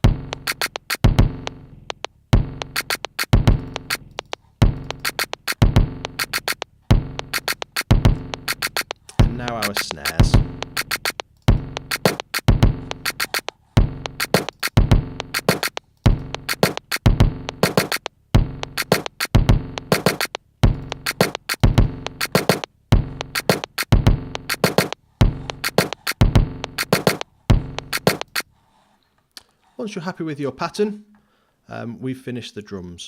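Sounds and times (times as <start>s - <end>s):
kick drum: 0.0s - 28.4s
snare drums: 0.0s - 28.4s.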